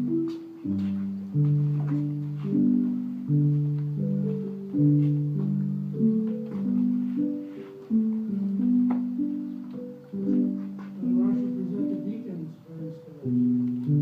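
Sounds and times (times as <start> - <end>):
keyboard playing sustained chords: 0.0 - 14.0.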